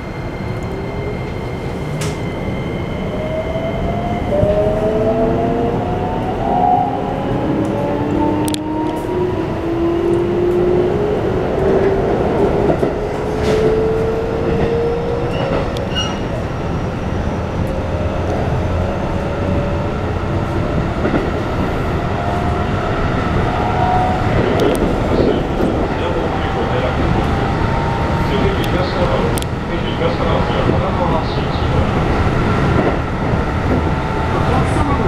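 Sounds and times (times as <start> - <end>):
train inverter whining: 0.0 - 35.0
wheels rumbling on track: 0.0 - 35.0.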